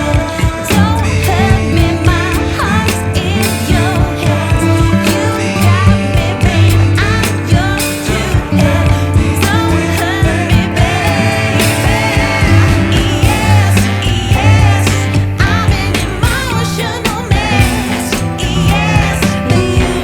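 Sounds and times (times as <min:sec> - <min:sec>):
song with vocals bass and beat: 0:00.0 - 0:20.0.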